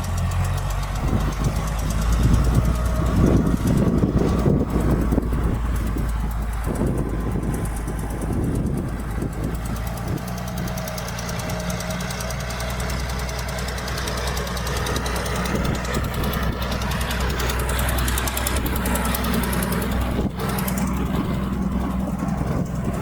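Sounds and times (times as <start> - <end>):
heavy machinery diesel engine running: 0.0 - 23.0.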